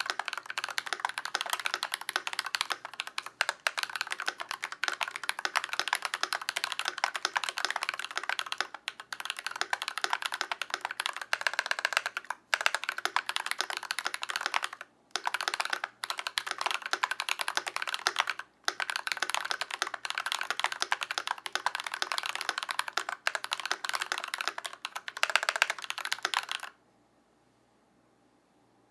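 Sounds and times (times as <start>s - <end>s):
mechanical keyboard typing: 0.0s - 26.8s.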